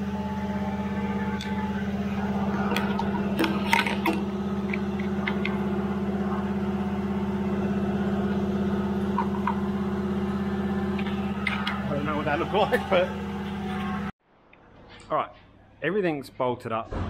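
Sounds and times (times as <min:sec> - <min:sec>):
machine hum with fast buzz: 0:00.0 - 0:14.2.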